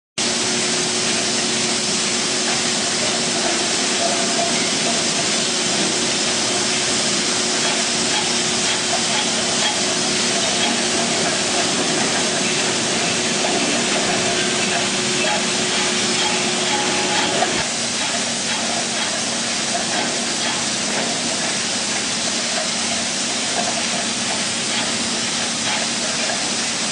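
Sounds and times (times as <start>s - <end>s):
air conveyor rushing hiss: 0.2s - 26.9s
low machine hum: 0.2s - 26.9s.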